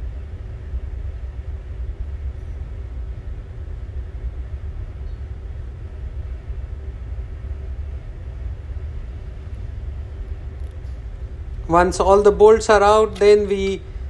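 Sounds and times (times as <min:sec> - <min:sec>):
faint constant hum: 0:00.0 - 0:14.0
low machinery rumble: 0:00.0 - 0:14.0.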